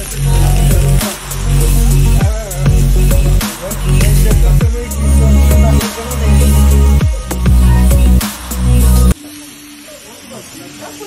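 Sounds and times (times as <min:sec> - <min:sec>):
background music with heavy bass: 0:00.0 - 0:09.2.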